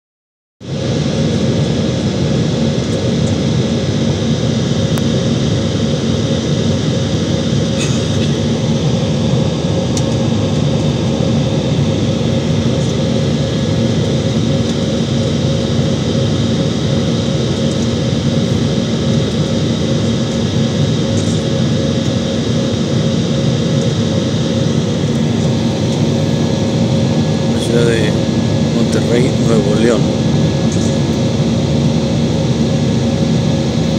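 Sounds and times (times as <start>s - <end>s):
jet engine cabin roar: 0.6s - 33.9s
low hum: 0.7s - 33.9s.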